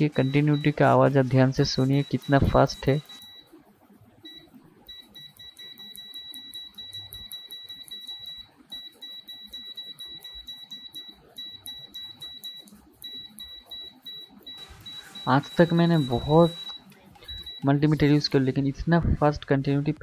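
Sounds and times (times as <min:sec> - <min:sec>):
multimeter continuity buzzer beeping: 0:00.0 - 0:03.5, 0:04.2 - 0:18.4.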